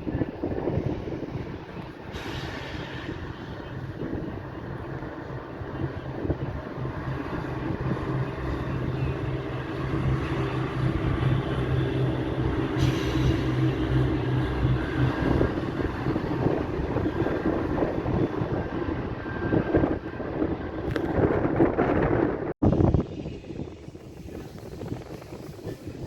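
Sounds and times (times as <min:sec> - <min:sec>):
train engine hum: 0:00.0 - 0:26.0.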